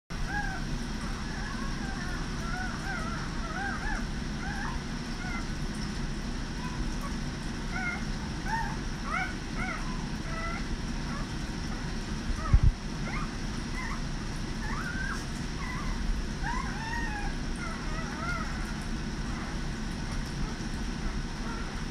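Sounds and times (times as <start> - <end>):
puppies squeaking and whimpering: 0.2 - 5.9, 6.6 - 21.9.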